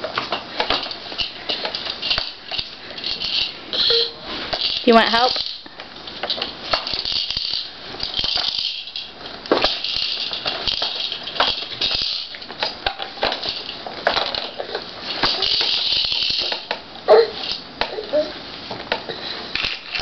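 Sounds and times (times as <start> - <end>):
plastic toys rattling and clicking: 0.0 - 20.0.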